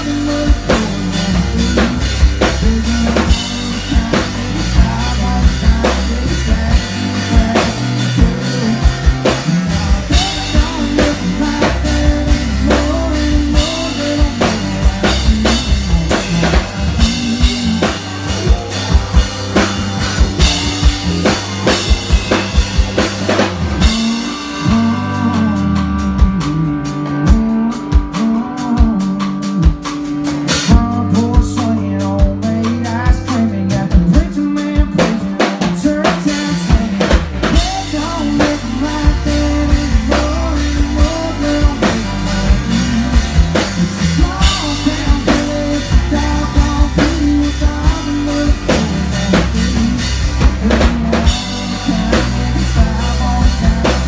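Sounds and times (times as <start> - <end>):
drum kit: 0.0 - 54.0
live country band playing: 0.0 - 54.0.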